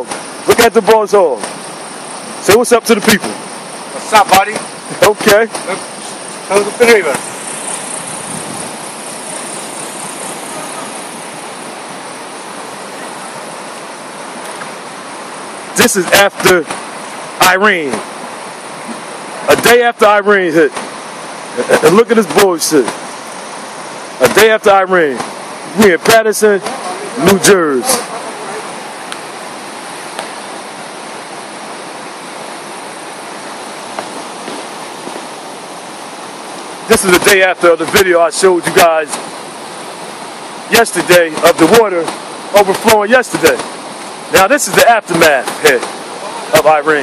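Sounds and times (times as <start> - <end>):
river rushing: 0.0 - 47.0.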